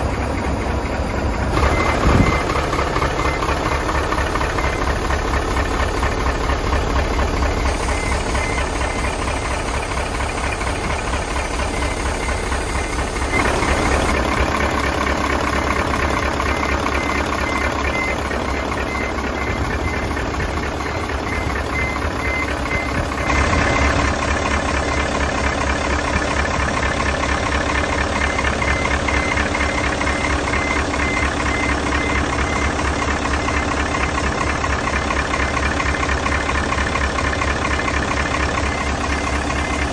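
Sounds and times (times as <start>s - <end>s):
diesel engine idling clatter: 0.0s - 39.9s.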